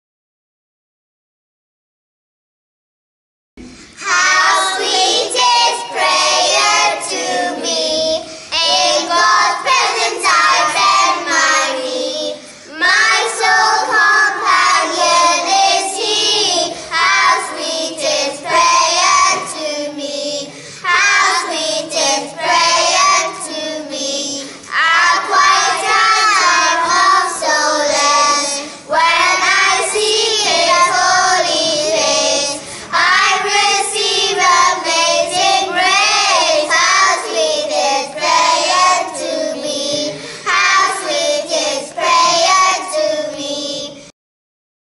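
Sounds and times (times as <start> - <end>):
children's choir singing: 3.9 - 44.1.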